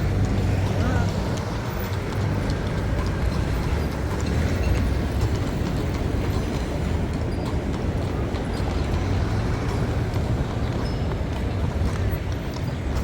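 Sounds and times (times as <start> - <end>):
heavy city traffic rumble: 0.0 - 13.0.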